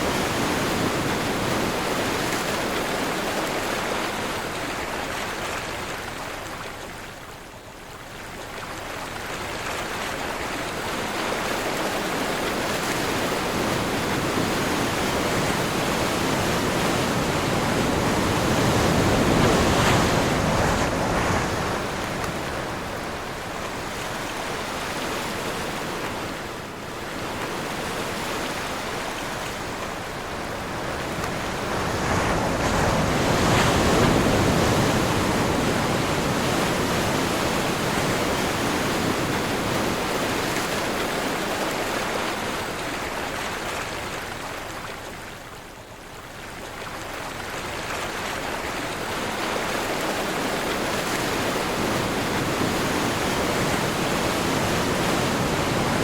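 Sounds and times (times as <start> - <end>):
ocean surf washing: 0.0 - 56.0
wind: 0.0 - 56.0.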